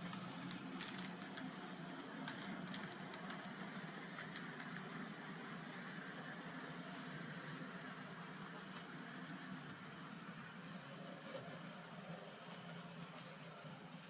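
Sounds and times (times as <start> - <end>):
faint model train motor hum: 0.0 - 14.0.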